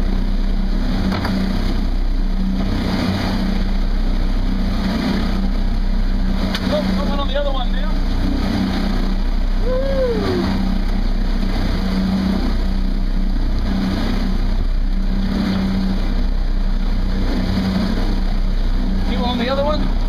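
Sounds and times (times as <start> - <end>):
boat engine running: 0.0 - 20.0
wake wash: 0.0 - 20.0.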